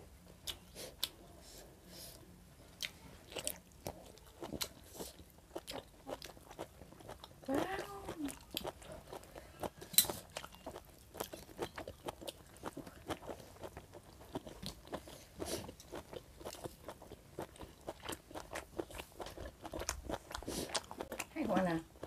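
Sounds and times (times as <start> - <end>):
person chewing and crunching: 2.8 - 22.0.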